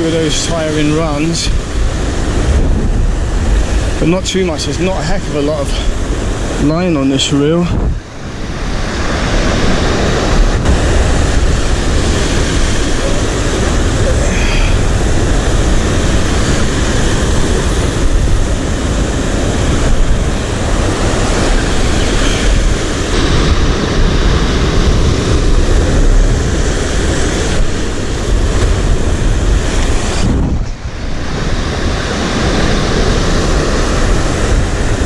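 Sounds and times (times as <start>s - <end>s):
waves washing on shore: 0.0s - 35.0s
wind buffeting microphone: 0.0s - 35.0s.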